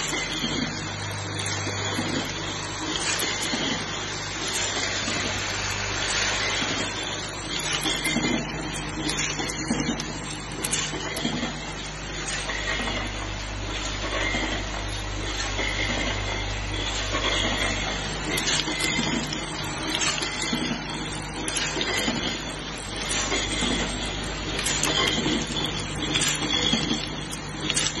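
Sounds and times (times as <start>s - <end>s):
machine rattle and hiss: 0.0s - 28.0s.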